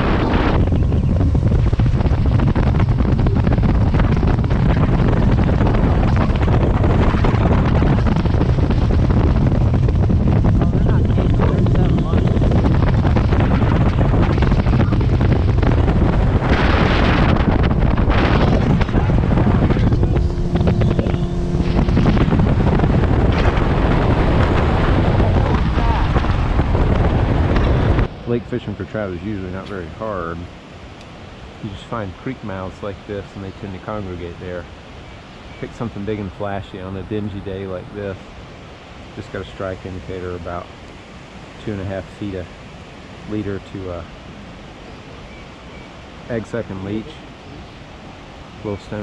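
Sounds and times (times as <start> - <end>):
outboard motor drone: 0.0 - 49.0
wind buffeting microphone: 0.0 - 49.0.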